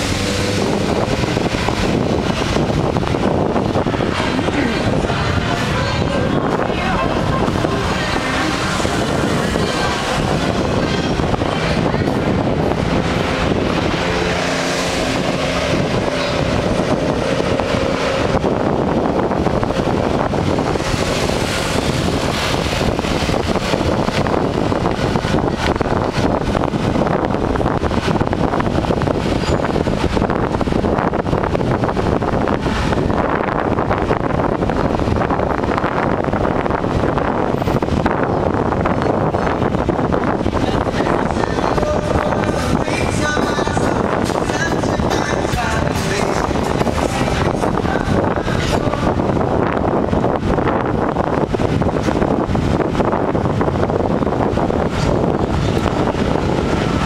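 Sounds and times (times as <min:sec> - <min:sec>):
street traffic: 0:00.0 - 0:57.0
vehicle engine and road noise: 0:00.0 - 0:57.0
wind buffeting microphone: 0:00.0 - 0:57.0.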